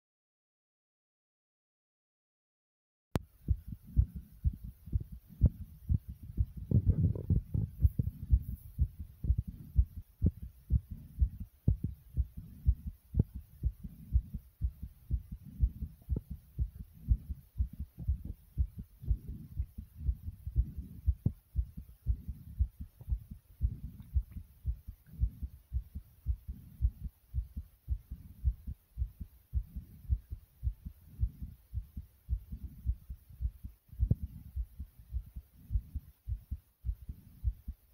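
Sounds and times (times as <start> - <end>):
fast heartbeat thuds: 3.2 - 37.9.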